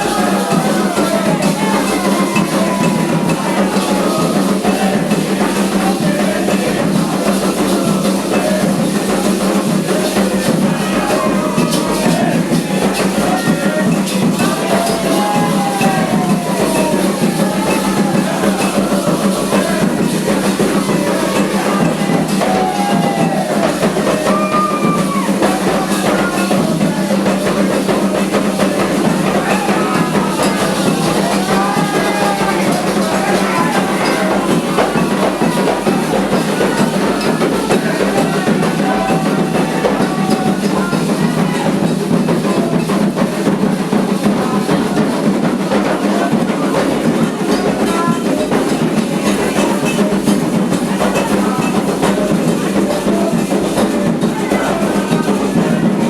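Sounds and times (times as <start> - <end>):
hand drums playing: 0.0 - 56.0
voices singing a chant: 0.0 - 56.0.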